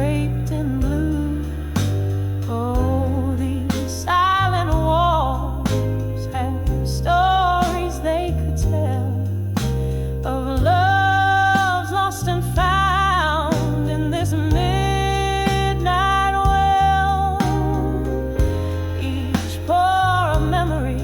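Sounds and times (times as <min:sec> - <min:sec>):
bass line: 0:00.0 - 0:21.0
wordless singing with vibrato: 0:00.0 - 0:21.0.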